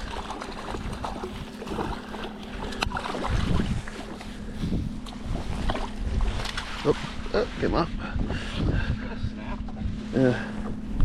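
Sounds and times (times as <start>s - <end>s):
steady low hum: 0.0s - 11.0s
wind on microphone: 0.0s - 11.0s.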